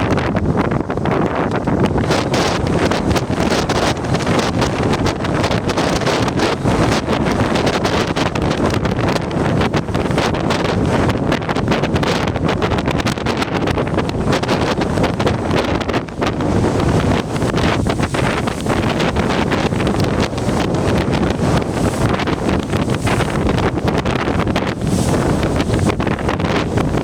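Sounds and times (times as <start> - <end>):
ocean surf crashing: 0.0 - 27.0
wind buffeting microphone: 0.0 - 27.0.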